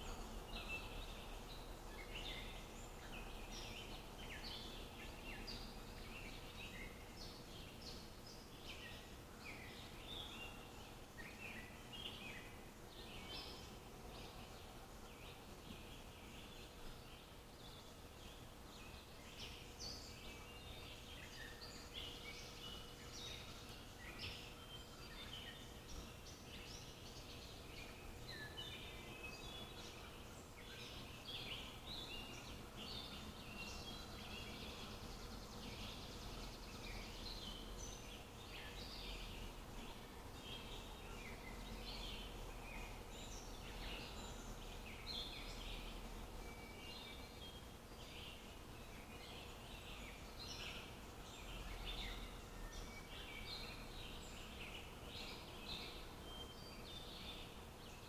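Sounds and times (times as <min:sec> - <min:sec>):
faint outdoor background: 0:00.0 - 0:58.0
songbirds singing and chirping: 0:00.0 - 0:58.0.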